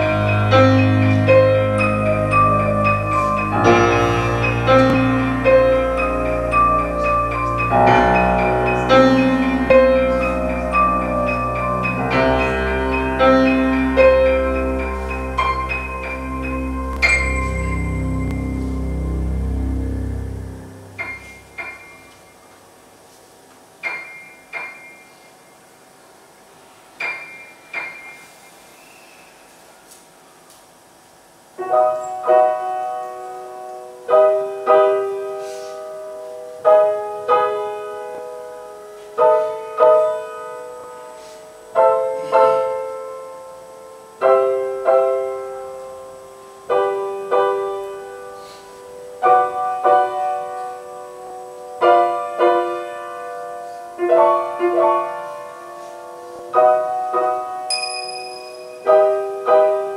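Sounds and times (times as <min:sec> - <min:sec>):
soft slow piano chords: 0:00.0 - 0:59.9.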